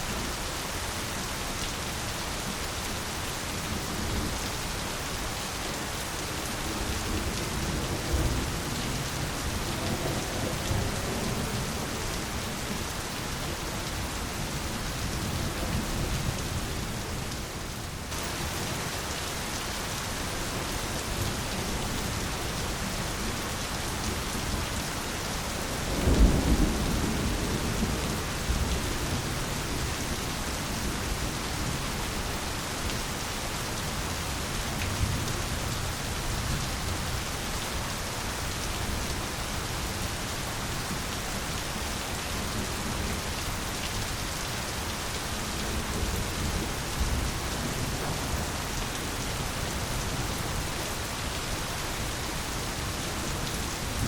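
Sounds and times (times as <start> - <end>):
heavy rain on leaves: 0.0 - 54.0.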